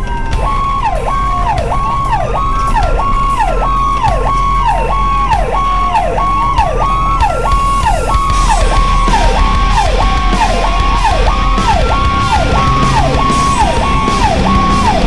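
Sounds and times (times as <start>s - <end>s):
engine hum: 0.0s - 15.0s
fast siren tone: 0.0s - 15.0s
siren wail: 0.0s - 15.0s.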